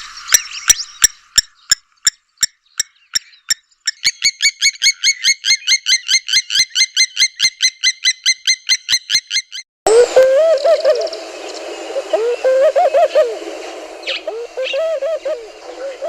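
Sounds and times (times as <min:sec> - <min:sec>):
bird call of repeated notes: 0:01.6 - 0:16.0.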